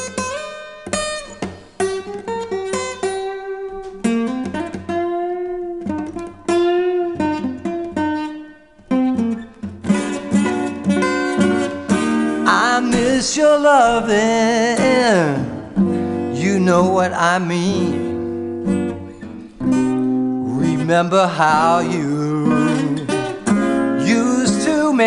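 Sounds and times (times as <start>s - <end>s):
plucked acoustic guitar: 0.0s - 25.0s.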